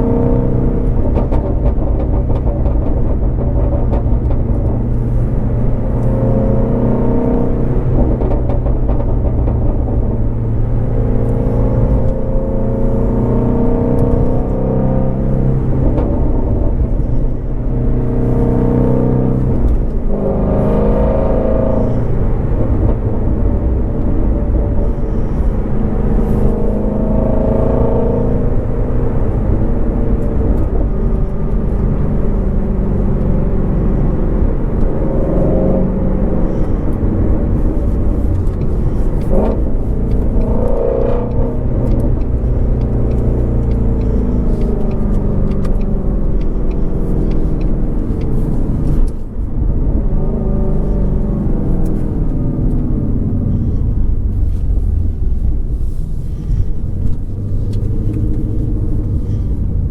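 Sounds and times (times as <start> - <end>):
car engine and exhaust revving: 0.0 - 59.9.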